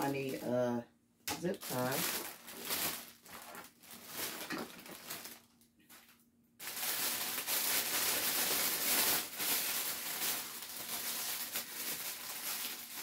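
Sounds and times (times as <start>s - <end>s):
cellophane bag crinkling: 1.4s - 13.0s.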